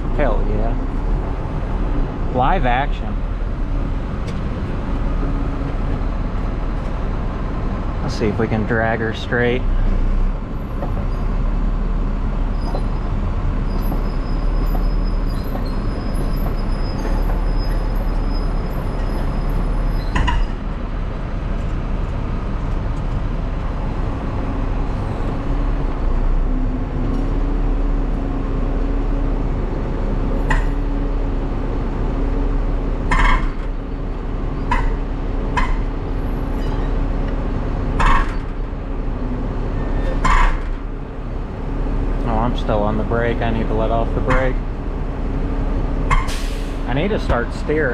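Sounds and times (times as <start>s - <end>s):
truck engine droning: 0.0s - 47.9s.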